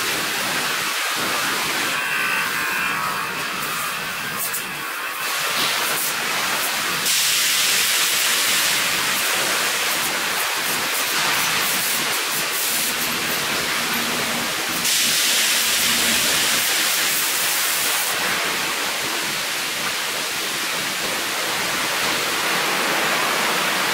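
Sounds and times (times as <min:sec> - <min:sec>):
hiss of water spraying: 0:00.0 - 0:23.9.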